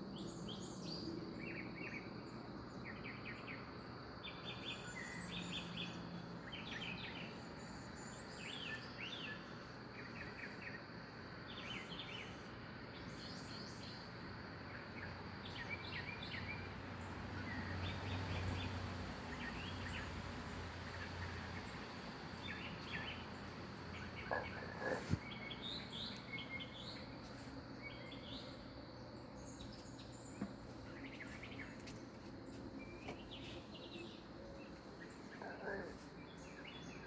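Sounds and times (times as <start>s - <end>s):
faint low hum: 0.0s - 37.0s
outdoor ambience hiss: 0.0s - 37.0s
small birds chirping: 0.0s - 37.0s.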